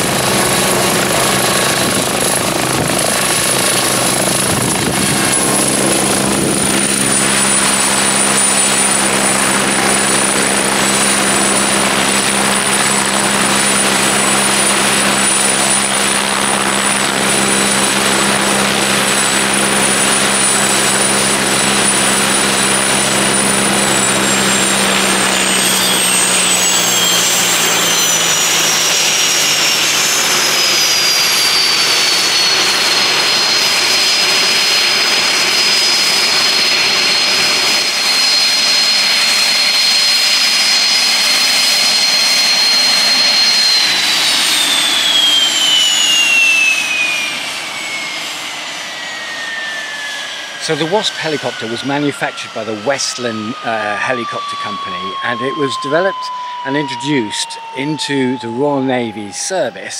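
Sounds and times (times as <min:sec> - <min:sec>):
helicopter rotor drone: 0:00.0 - 0:59.9
high turbine whine: 0:00.0 - 0:59.9.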